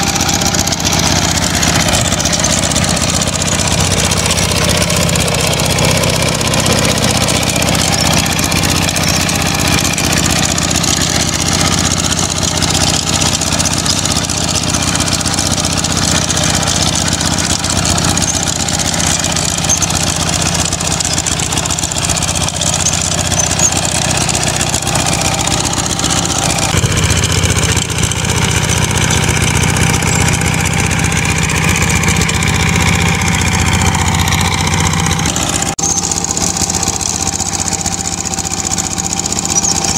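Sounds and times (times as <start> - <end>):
diesel hand tractor tilling: 0.0 - 39.9.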